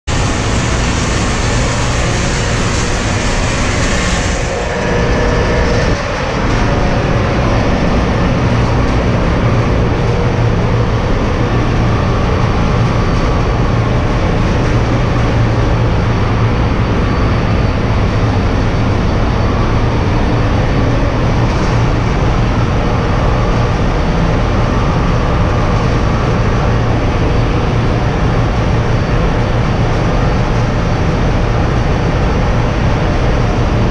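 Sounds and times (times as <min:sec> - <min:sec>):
engine room machinery hum and hiss: 0:00.0 - 0:33.9.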